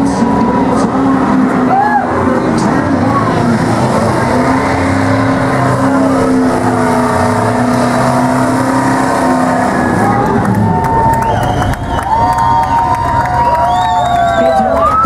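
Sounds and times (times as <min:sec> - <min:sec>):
stock car engines running: 0:00.0 - 0:15.0.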